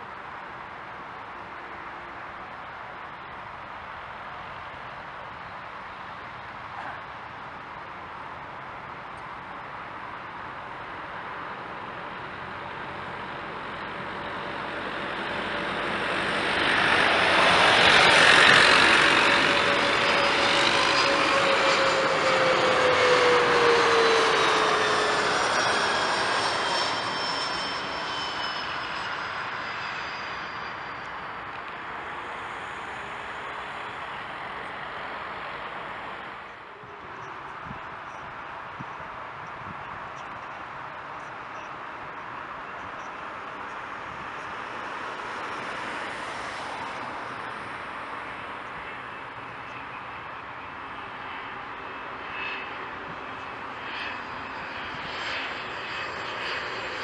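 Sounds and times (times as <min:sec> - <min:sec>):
jet engine whine passing: 0:10.0 - 0:57.0.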